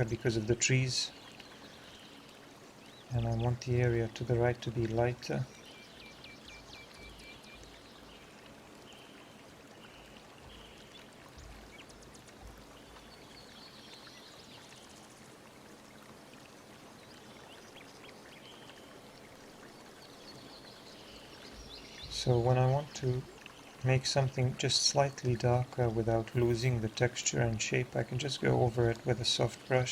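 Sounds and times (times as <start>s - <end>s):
faint flowing water: 0.0s - 29.9s.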